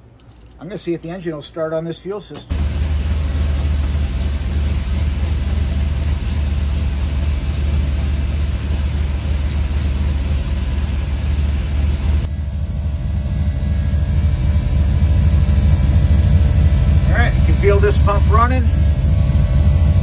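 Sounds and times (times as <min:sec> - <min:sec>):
engine idling: 0:02.5 - 0:20.0.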